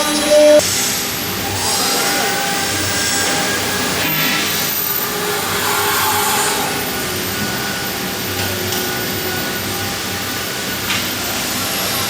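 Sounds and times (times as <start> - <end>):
cnc router running: 0.0 - 12.0
faint high whine: 0.0 - 12.0.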